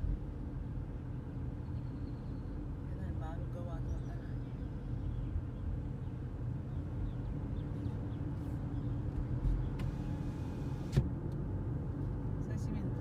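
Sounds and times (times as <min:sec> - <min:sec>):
car engine hum and tyre noise: 0:00.0 - 0:13.0.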